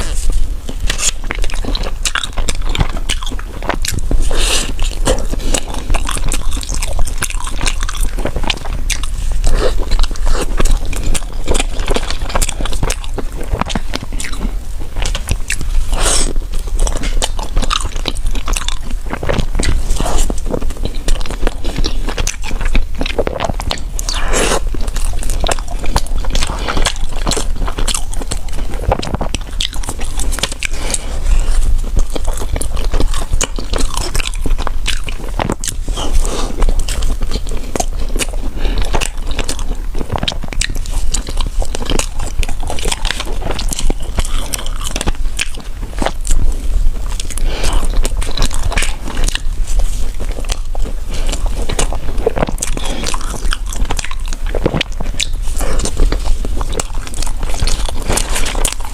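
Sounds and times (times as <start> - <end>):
person chewing food: 0.0 - 58.9
steady low hum: 0.0 - 58.9.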